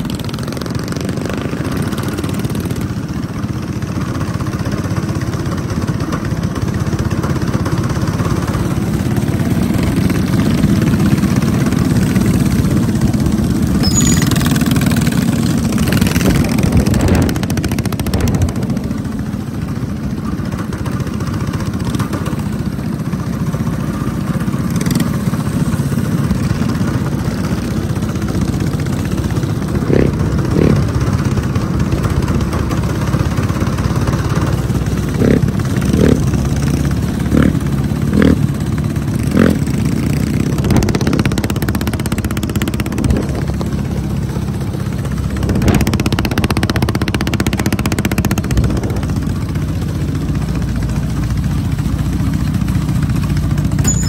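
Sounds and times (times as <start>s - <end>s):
small gas engines droning: 0.0s - 54.0s.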